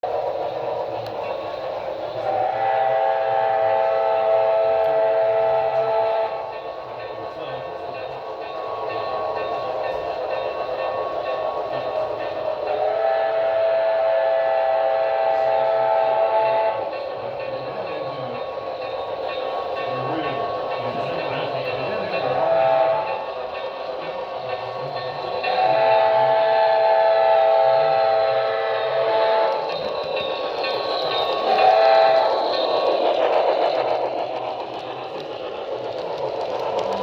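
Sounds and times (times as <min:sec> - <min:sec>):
model train running: 0:00.0 - 0:37.0
chime steam whistle blasts: 0:01.4 - 0:33.1.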